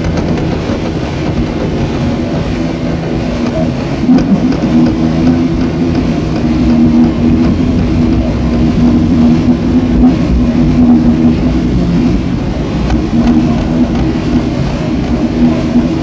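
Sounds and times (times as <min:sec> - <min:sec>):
experimental electronic noise music: 0:00.0 - 0:16.0.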